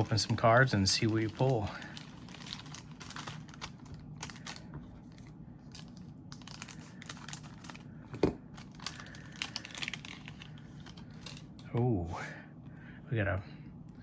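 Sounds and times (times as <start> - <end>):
foil wrapper crinkling: 0.0 - 11.6.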